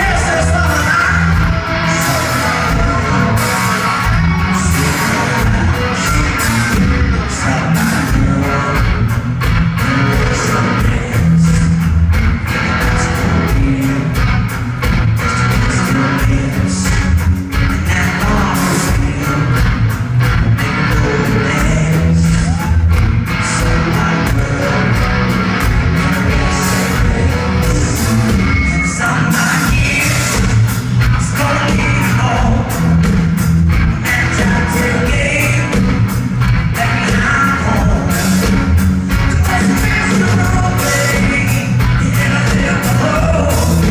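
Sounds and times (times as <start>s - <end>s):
man singing lead vocal: 0.0s - 14.5s, 15.2s - 33.2s, 33.8s - 43.9s
electric guitars and bass: 0.0s - 43.9s
live rock band playing: 0.0s - 43.9s.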